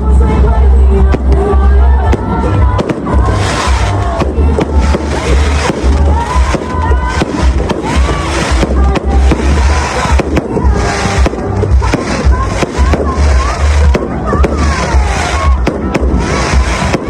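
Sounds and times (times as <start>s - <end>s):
fireworks bangs and crackles: 0.0s - 17.0s
loud music with pulsing bass: 0.0s - 17.0s.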